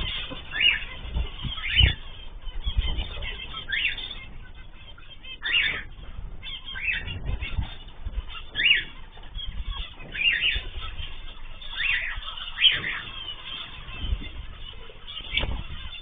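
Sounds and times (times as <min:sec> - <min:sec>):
pet birds calling: 0:00.0 - 0:16.0.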